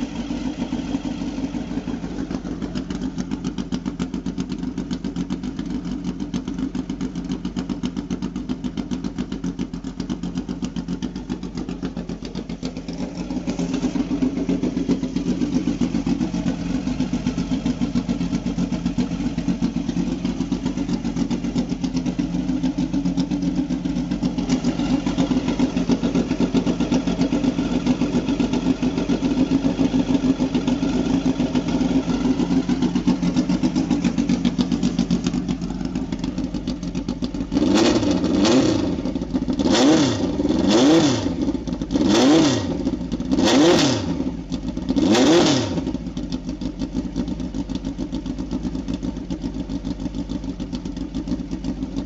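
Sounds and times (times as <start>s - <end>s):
race car engine idling: 0.0s - 52.0s.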